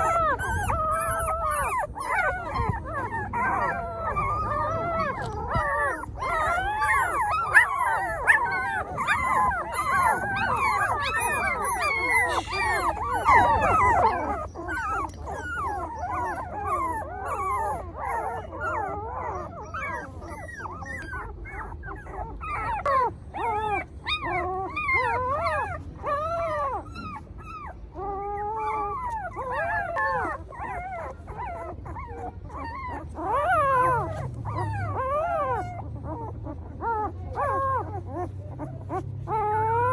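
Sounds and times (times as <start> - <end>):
puppies whimpering and howling: 0.0 - 39.9.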